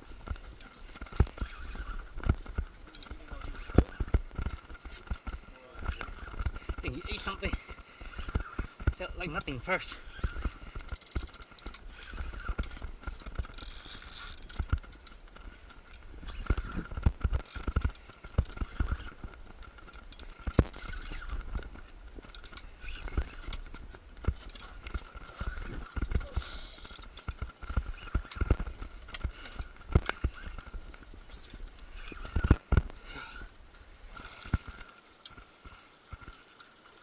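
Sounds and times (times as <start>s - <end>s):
fishing reel cranking: 0.2s - 37.0s.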